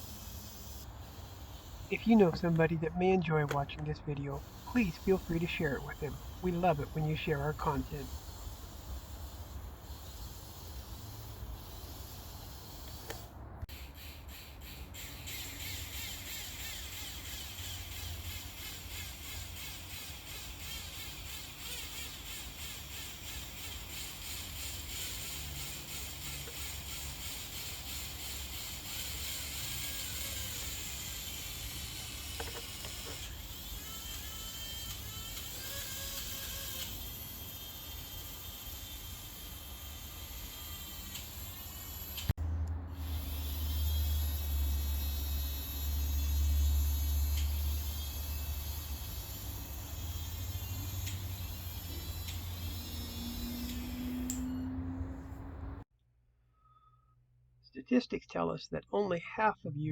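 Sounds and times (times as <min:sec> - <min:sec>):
small electric motors whining: 0:00.0 - 0:02.3, 0:04.4 - 0:55.8.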